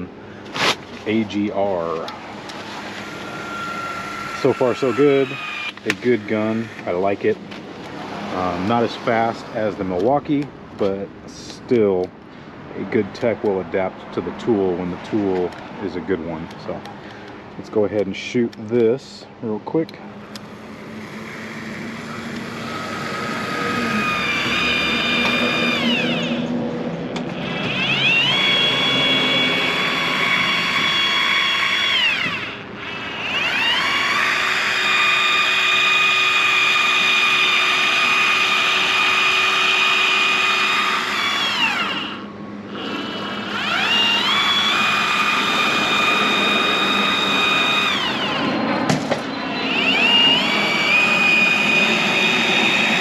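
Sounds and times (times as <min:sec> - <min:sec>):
powered caulking gun whining: 0:00.0 - 0:12.1, 0:19.6 - 0:53.0.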